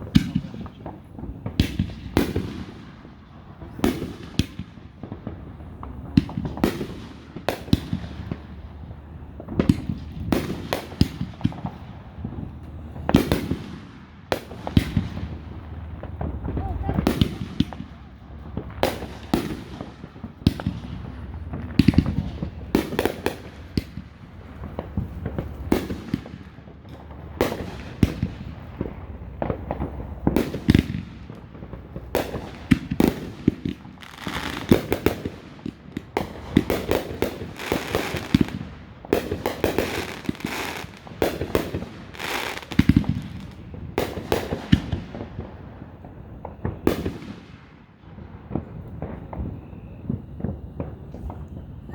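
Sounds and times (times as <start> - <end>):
fireworks bursting with sharp bangs: 0.0 - 51.9.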